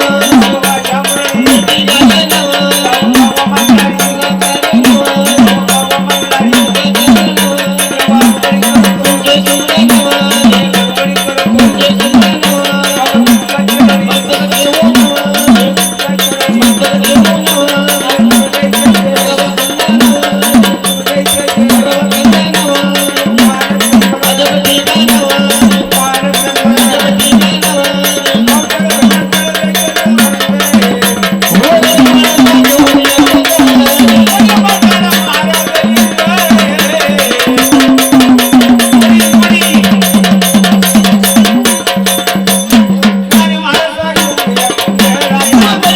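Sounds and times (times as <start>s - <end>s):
hand drum beating: 0.0s - 45.9s.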